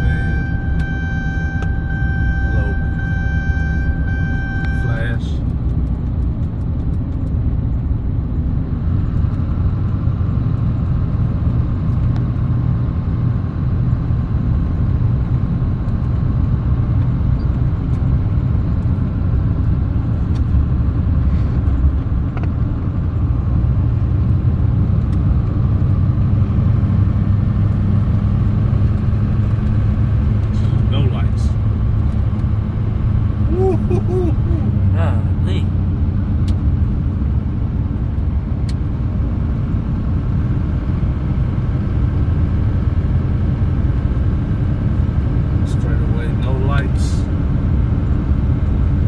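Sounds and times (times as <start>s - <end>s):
pickup truck engine rumble: 0.0s - 49.0s.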